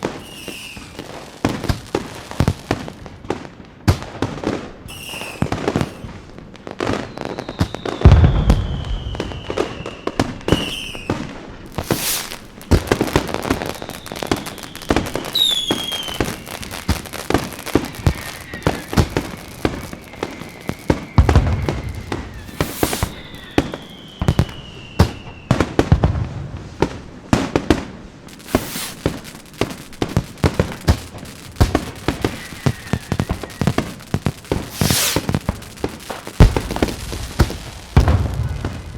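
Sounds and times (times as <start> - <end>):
falling firework whistles: 0.0 - 3.5, 4.2 - 38.9
fireworks pops and crackles: 0.0 - 38.9
deep firework booms: 7.7 - 38.9.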